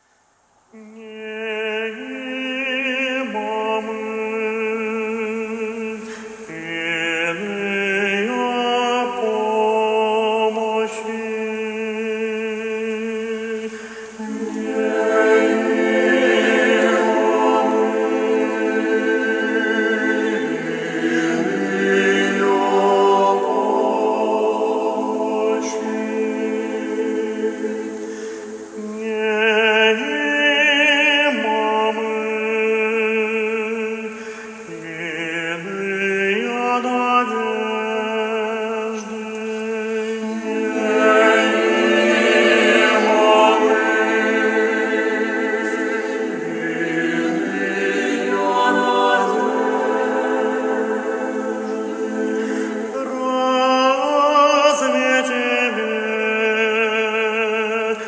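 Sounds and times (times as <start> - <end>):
choir singing a cappella: 0.7 - 58.0.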